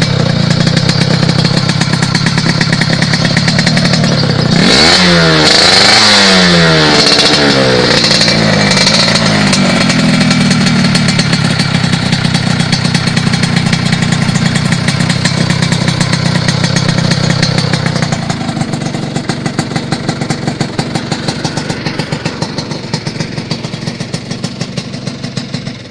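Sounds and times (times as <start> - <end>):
motorcycle engine revving and idling: 0.0 - 25.9.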